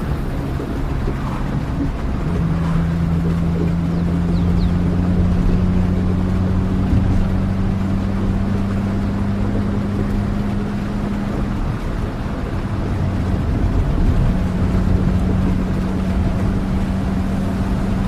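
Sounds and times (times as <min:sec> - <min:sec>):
rumbling road noise: 0:00.0 - 0:18.0
vehicle engine drone: 0:00.0 - 0:18.0.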